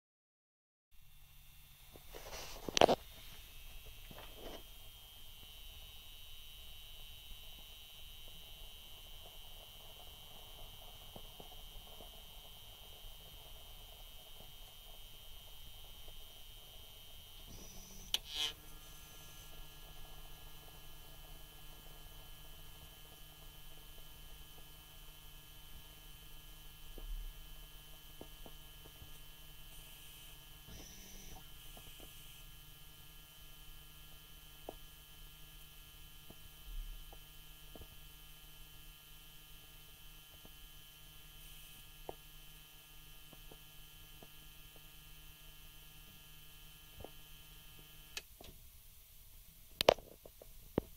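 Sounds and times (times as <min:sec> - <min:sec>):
steady electrical buzz: 0:01.0 - 0:50.9.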